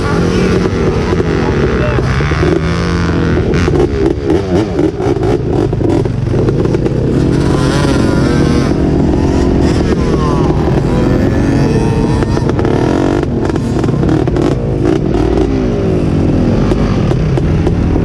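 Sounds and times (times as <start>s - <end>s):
off-road engines revving: 0.0s - 18.0s.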